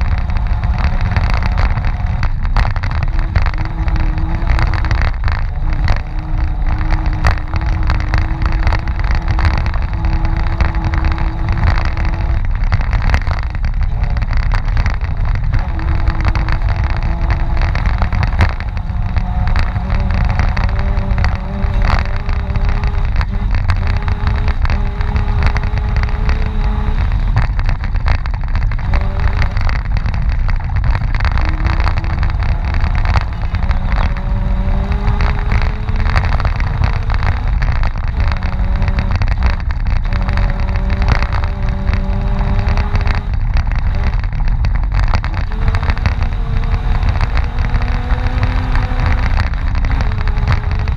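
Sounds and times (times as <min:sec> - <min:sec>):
off-road vehicle engine revving: 0:00.0 - 0:50.9.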